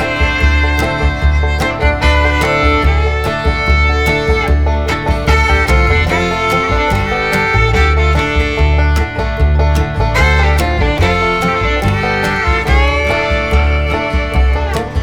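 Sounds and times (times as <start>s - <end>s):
country tune with fiddle: 0.0s - 15.0s.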